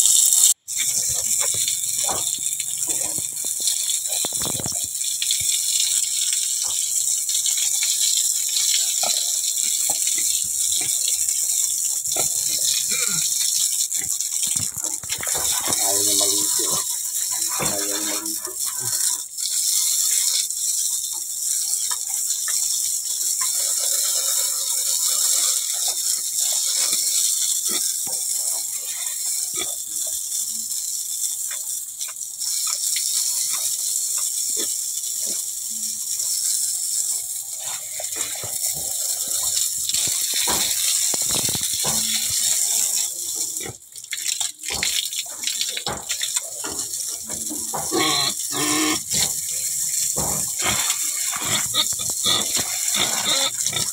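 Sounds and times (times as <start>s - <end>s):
hose spraying water on concrete: 0.0s - 53.9s.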